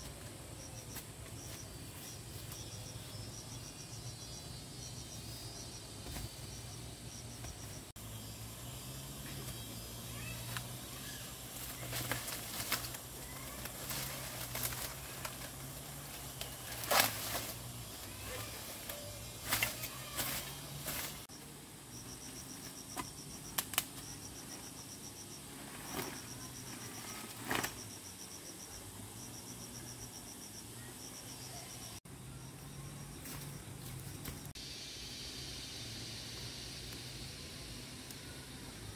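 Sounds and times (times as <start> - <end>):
insect chirping trills: 0.0 - 38.9.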